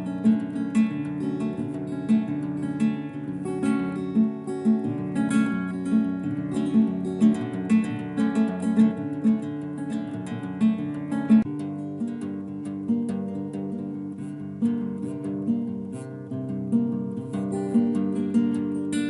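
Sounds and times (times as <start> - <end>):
solo acoustic guitar piece: 0.0 - 19.0.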